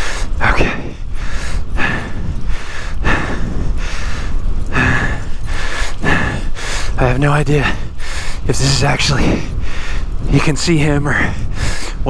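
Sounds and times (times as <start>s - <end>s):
person breathing heavily: 0.0s - 12.0s
wind rumble on microphone: 0.0s - 12.0s.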